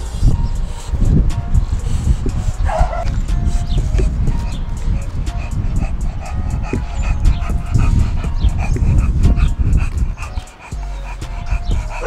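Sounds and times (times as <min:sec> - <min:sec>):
dogs barking: 0:00.0 - 0:12.0
dogs whining: 0:00.0 - 0:12.0
heavy low rumble: 0:00.0 - 0:12.0.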